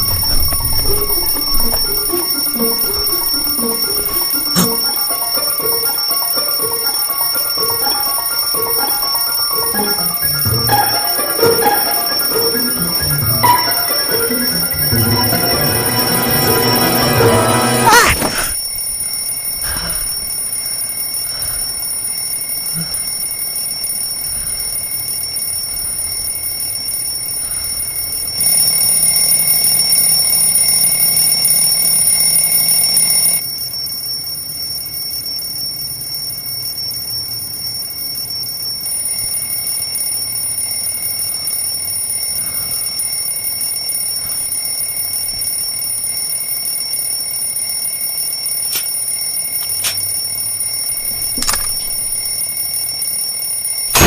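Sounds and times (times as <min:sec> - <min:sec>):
alarm clock ringing: 0:00.0 - 0:35.2, 0:38.4 - 0:54.0.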